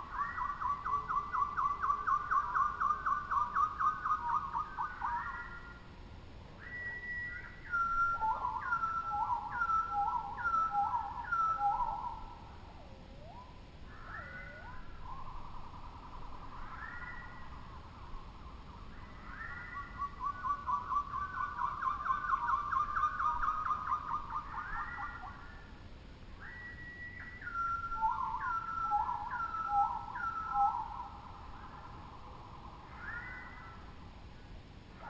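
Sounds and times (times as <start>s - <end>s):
birds singing whistled songs: 0.0s - 35.0s.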